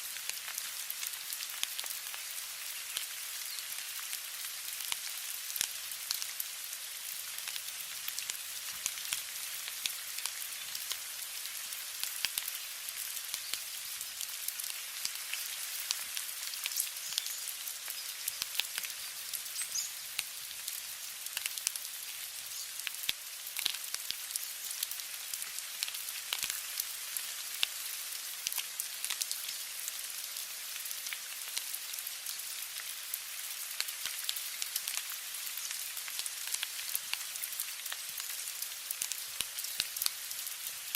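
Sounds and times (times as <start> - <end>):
rain drops pattering: 0.0 - 40.9.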